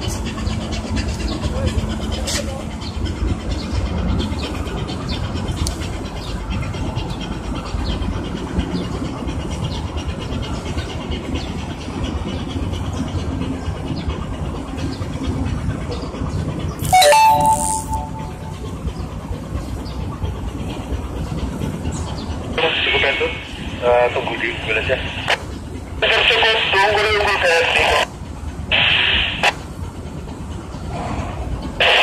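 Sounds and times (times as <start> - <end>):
ship diesel engines rumbling: 0.0 - 32.0.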